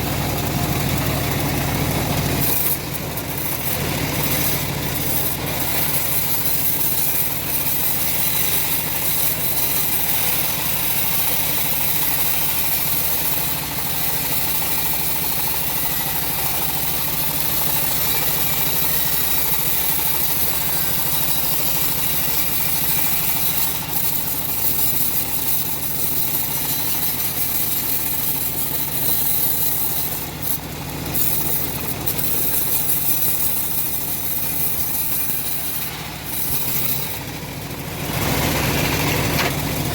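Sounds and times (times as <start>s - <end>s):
bandsaw engine running: 0.0s - 39.9s.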